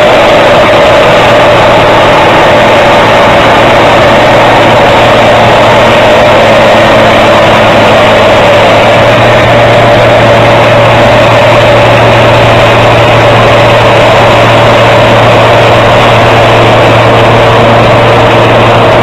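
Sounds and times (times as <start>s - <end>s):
tractor diesel engine under load: 0.0s - 19.0s
wheels churning through mud: 0.0s - 19.0s.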